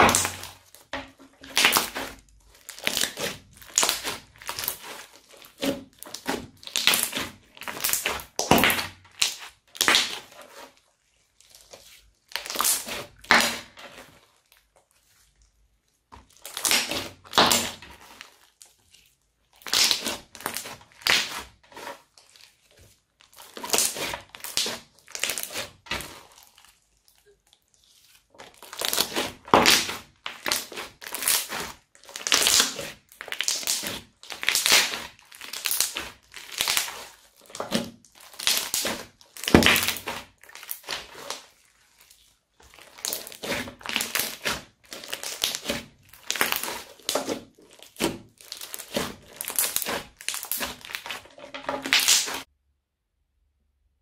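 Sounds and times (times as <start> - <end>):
crunchy slime squeezed by hand: 1.4 - 10.7, 16.2 - 52.5.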